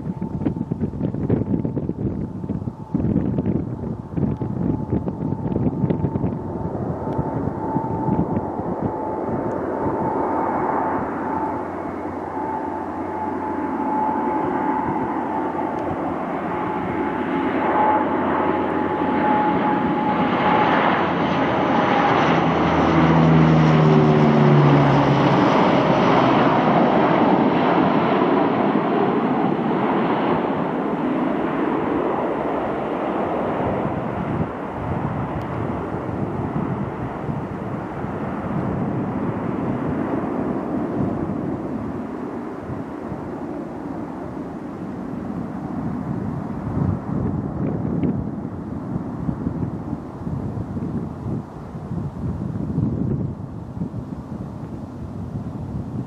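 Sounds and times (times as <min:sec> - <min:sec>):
turboprop aircraft passing: 0:00.0 - 0:56.0.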